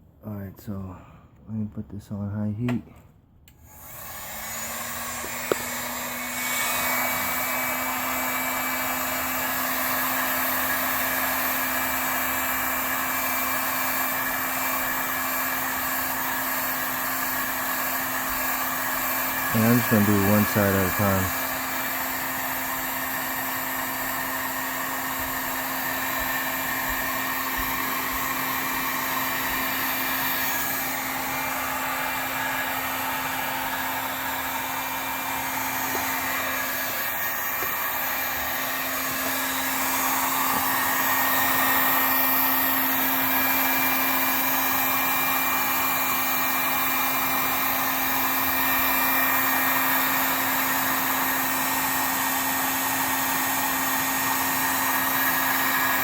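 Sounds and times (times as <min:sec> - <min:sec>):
heat gun blowing whir: 0:03.5 - 0:56.0.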